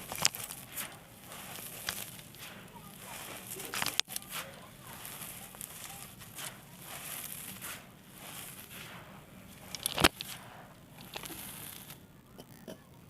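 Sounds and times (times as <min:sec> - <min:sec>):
dry clay blocks crunching: 0:00.0 - 0:12.9.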